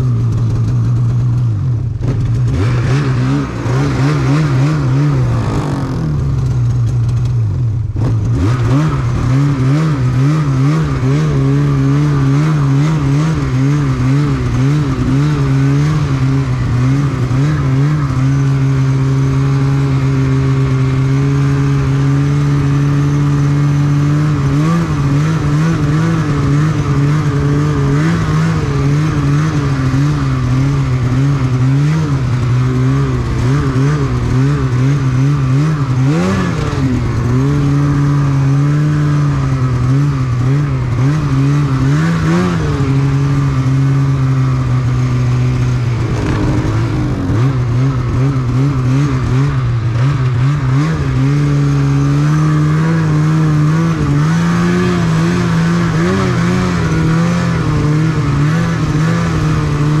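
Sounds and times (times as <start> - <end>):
snowmobile engine running: 0.0 - 60.0.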